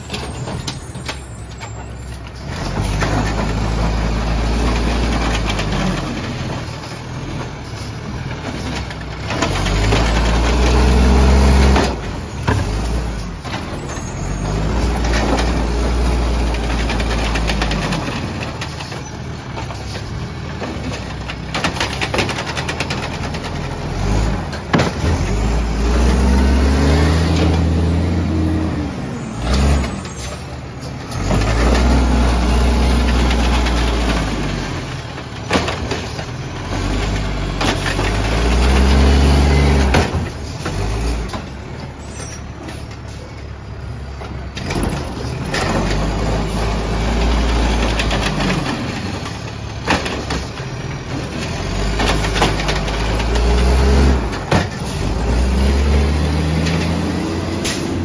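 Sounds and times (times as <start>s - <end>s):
garbage truck engine revving: 0.0s - 58.0s
trash carts banging on hopper: 0.0s - 58.0s.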